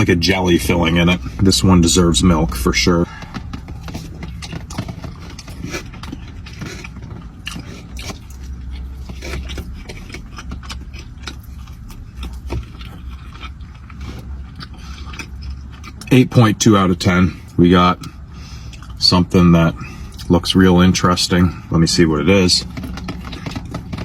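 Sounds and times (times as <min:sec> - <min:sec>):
chewing with wet smacks: 0:00.0 - 0:21.2, 0:22.0 - 0:24.0
steady low hum: 0:00.0 - 0:24.0.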